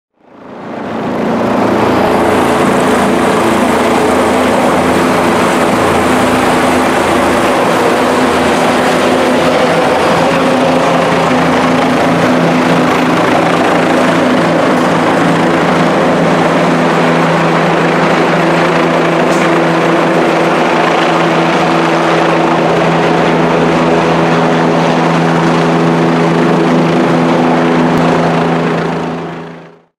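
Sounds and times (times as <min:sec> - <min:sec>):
helicopter rotor and engine: 0:00.2 - 0:29.9.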